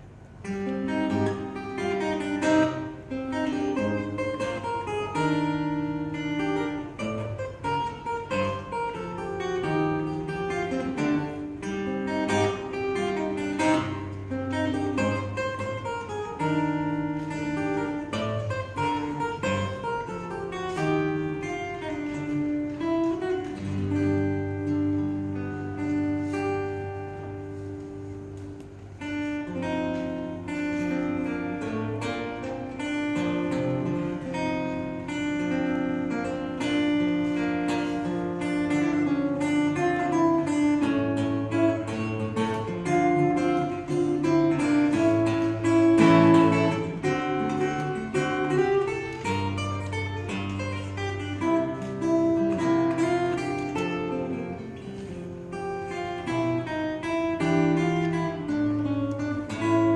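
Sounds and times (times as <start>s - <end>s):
fingerstyle acoustic guitar: 0.0s - 59.9s.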